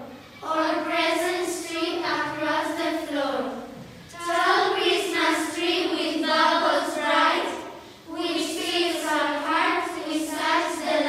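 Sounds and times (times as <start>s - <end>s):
girls choir singing in unison: 0.0s - 11.0s.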